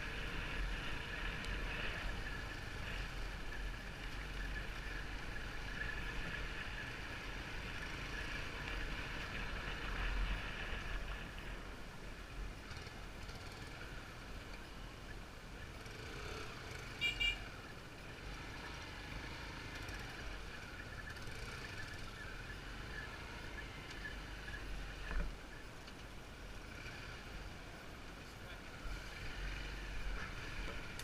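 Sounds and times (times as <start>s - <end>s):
motorbike engine and road rumble: 0.0s - 31.0s.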